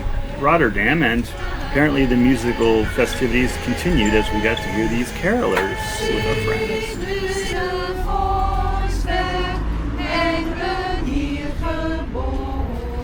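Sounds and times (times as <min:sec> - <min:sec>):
carolers singing: 0:00.0 - 0:13.0.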